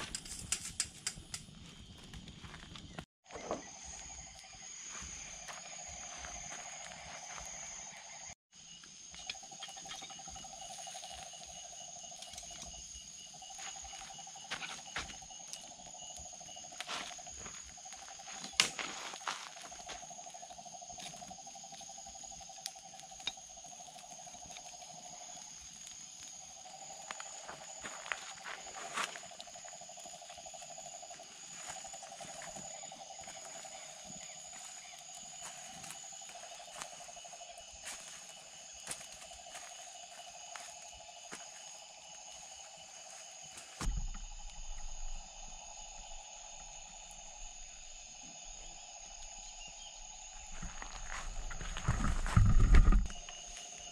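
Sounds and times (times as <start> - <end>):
high continuous insect buzz: 0.0 - 53.9
insects trilling: 0.0 - 53.9.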